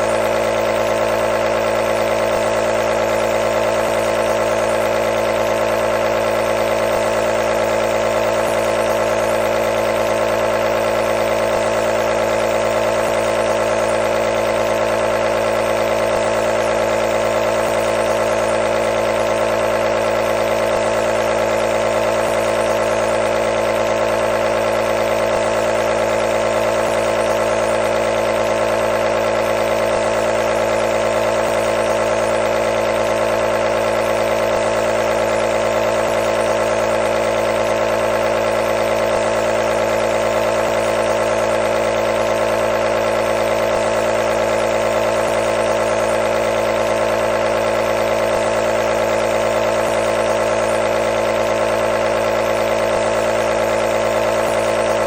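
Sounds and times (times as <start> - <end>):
compressor buzzing hum: 0.0 - 55.0.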